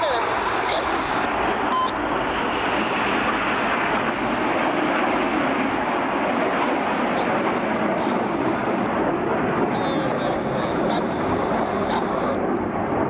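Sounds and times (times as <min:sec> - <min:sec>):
jet engine noise: 0:00.0 - 0:13.0.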